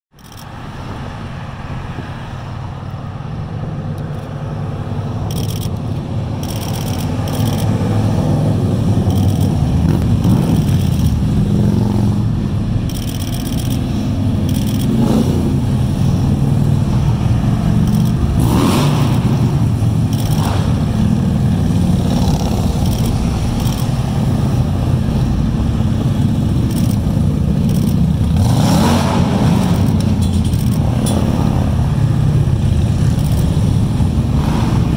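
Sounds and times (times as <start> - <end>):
motorcycles passing on highway: 0.2 - 34.9.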